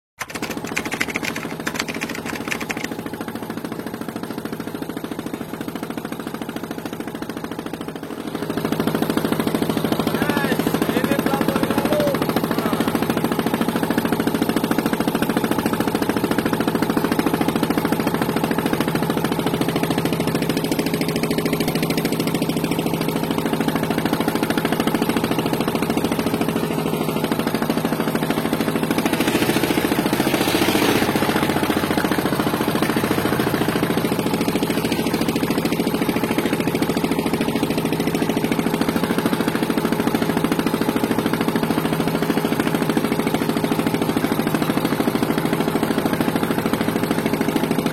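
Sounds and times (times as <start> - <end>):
engine running steadily: 0.2 - 47.9.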